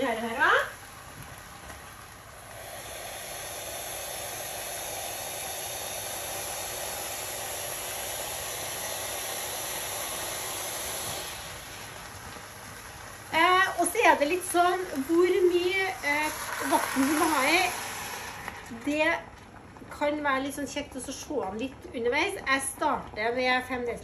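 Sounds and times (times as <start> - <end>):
boiling water hissing rush: 0.0 - 24.0.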